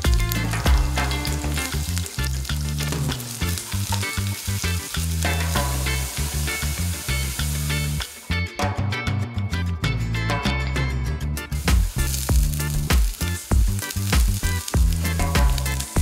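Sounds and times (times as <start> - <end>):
onions sizzling in hot oil: 0.0 - 8.4, 11.5 - 16.0
background music low notes: 0.0 - 16.0.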